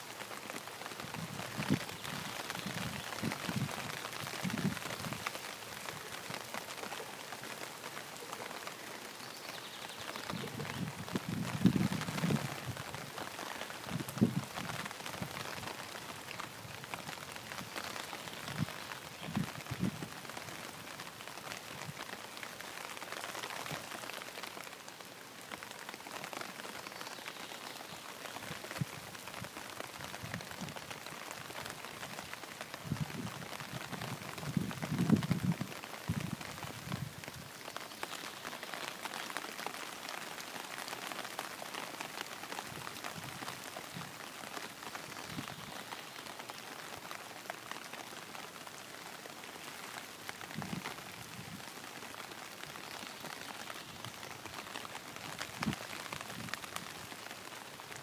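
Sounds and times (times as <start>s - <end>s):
rain falling on pond water: 0.0s - 58.0s.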